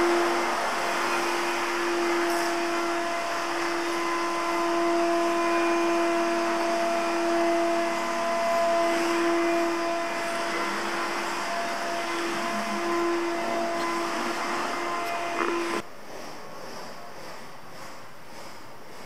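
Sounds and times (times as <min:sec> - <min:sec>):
vacuum cleaner running: 0:00.0 - 0:15.8.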